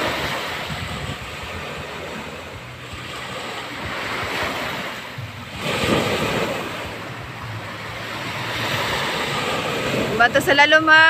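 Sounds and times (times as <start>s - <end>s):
sea waves breaking on shore: 0.0s - 11.0s.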